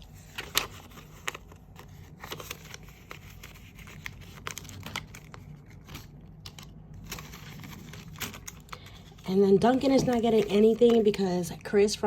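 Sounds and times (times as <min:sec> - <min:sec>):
paper money rustling: 0:00.0 - 0:11.4.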